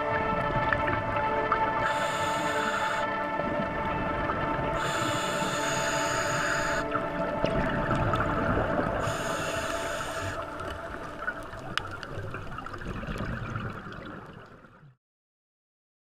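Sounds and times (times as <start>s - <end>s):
ambient music: 0.0s - 12.8s.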